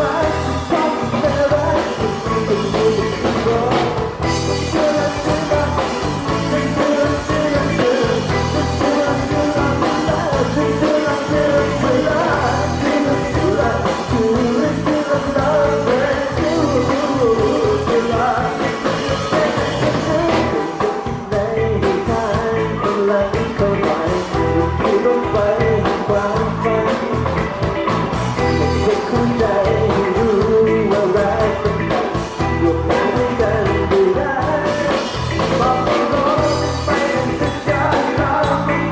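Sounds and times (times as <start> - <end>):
bass guitar: 0.0 - 38.9
drum kit: 0.0 - 38.9
electric guitar: 0.0 - 38.9
keyboard: 0.0 - 38.9
person singing: 0.0 - 38.9.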